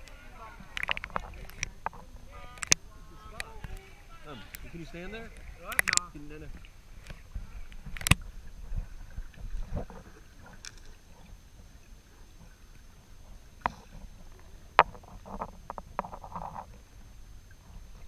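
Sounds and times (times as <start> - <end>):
water splashing around paddles: 0.0 - 18.0.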